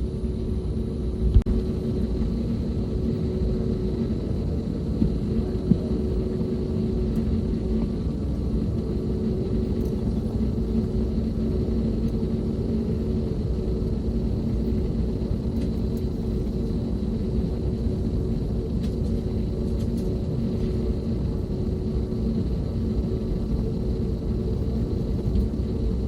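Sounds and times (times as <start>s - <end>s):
aircraft cabin rumble and hum: 0.0s - 26.0s.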